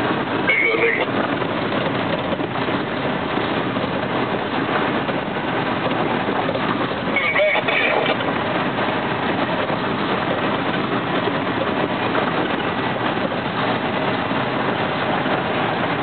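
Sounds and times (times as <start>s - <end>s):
truck diesel engine running: 0.0s - 16.0s
tyres on gravel road: 0.0s - 16.0s.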